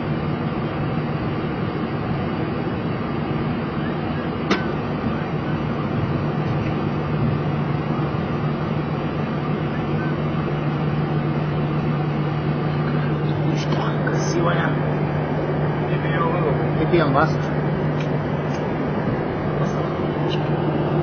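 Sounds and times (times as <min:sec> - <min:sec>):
aircraft engines idling: 0:00.0 - 0:21.0
constant low hum: 0:00.0 - 0:21.0.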